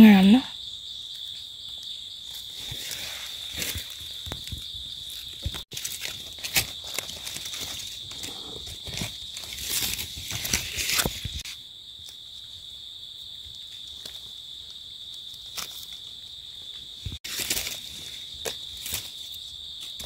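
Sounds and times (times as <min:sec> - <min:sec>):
insect drone: 0:00.0 - 0:20.0
rustling in dry leaves: 0:01.2 - 0:12.7, 0:13.4 - 0:20.0.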